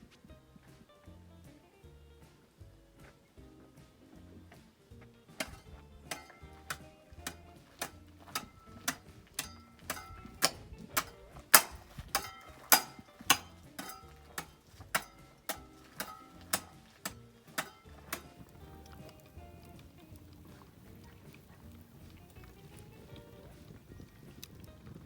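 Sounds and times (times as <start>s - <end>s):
background music with ticking beat: 0.0s - 25.0s.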